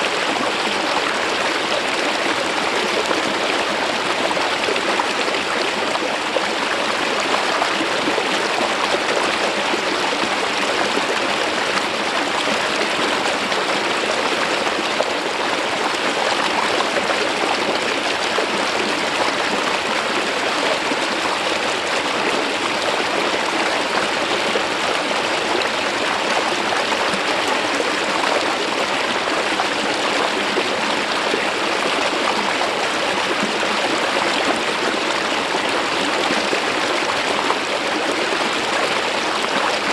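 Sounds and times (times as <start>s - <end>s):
stream water flowing over rock: 0.0s - 39.9s.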